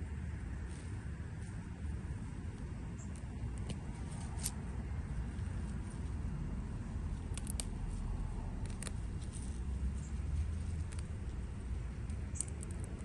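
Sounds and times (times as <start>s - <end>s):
steady low rumble: 0.0s - 13.0s
hand picking through herbs: 0.5s - 13.0s.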